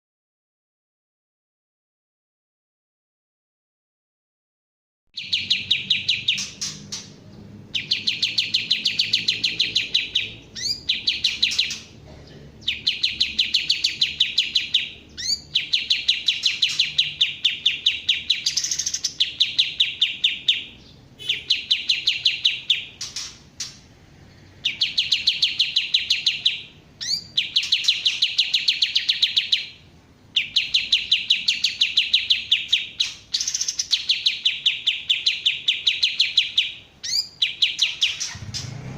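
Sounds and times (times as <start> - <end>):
songbird high chirps: 5.2 - 38.6.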